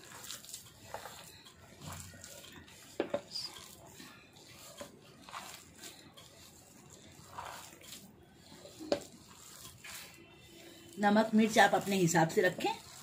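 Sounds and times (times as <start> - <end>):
hand squelching wet mixture: 0.0 - 13.0.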